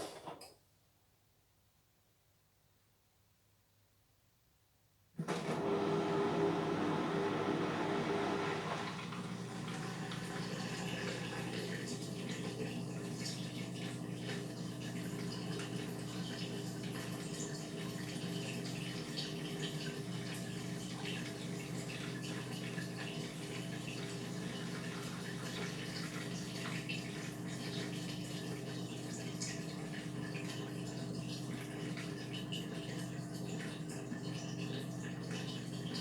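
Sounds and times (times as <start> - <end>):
washing machine motor hum: 5.2 - 36.0.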